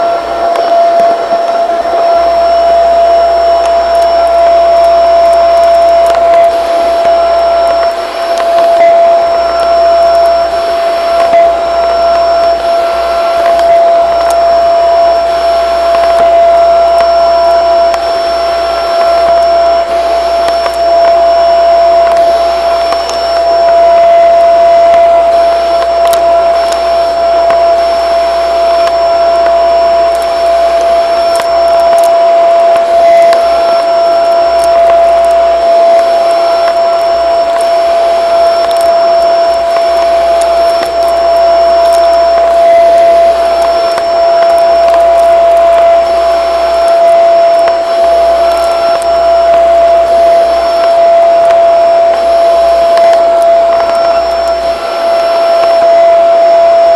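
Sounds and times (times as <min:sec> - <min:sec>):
vacuum cleaner motor whining: 0:00.0 - 0:56.9.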